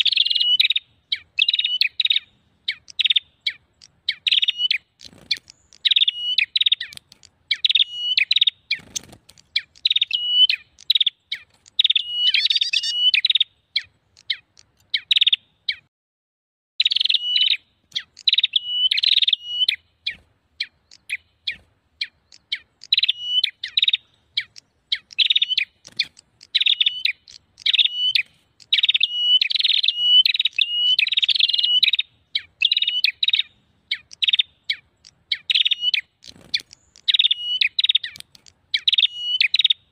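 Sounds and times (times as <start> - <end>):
birds chirping rapidly: 0.0 - 15.9, 16.8 - 39.9.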